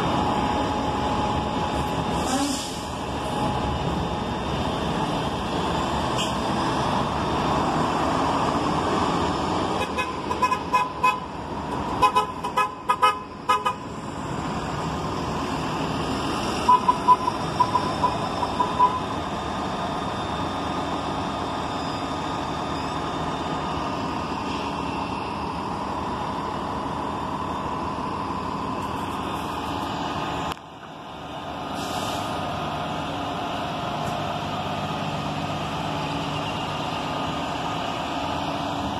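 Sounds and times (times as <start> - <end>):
buses running: 0.0 - 38.9.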